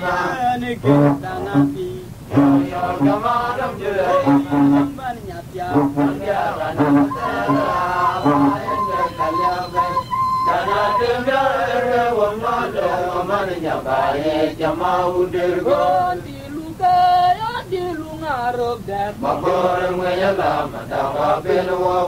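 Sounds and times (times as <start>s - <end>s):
voices singing a chant: 0.0s - 22.0s.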